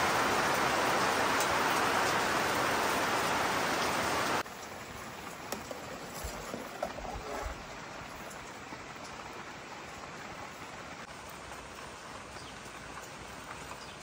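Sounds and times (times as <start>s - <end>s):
rain falling: 0.0s - 14.0s
water boiling: 0.0s - 14.0s.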